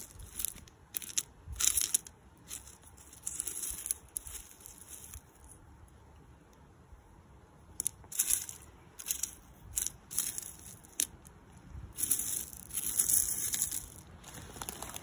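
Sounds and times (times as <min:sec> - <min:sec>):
gravel clicking and scraping: 0:00.0 - 0:05.7, 0:07.7 - 0:15.0.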